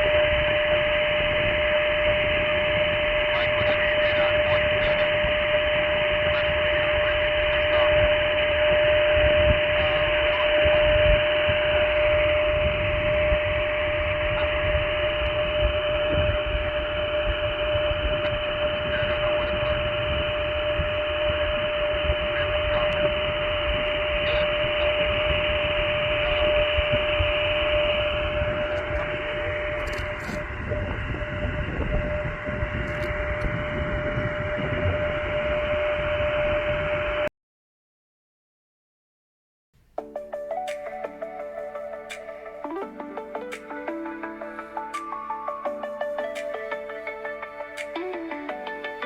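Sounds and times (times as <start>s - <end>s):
receiver noise hiss: 0.0s - 37.3s, 39.8s - 49.0s.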